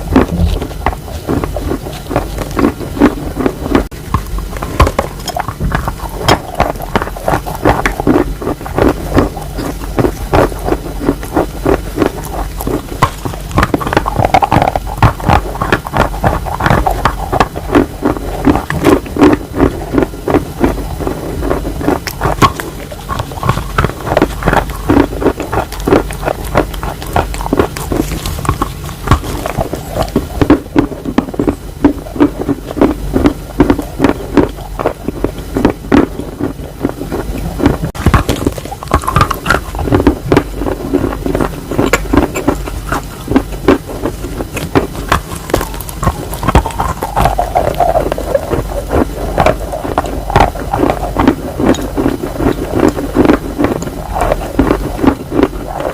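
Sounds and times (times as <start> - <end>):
chalk being chewed: 0.0 - 55.9.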